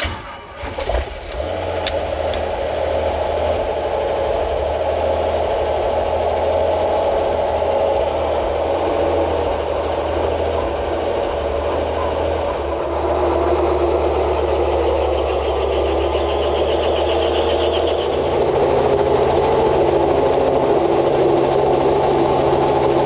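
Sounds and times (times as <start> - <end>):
helicopter engine and rotor: 0.6 - 23.0.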